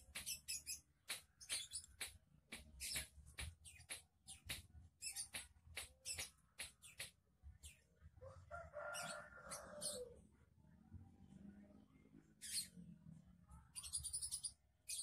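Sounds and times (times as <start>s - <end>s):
small birds chirping: 0.0s - 10.2s, 11.3s - 15.0s.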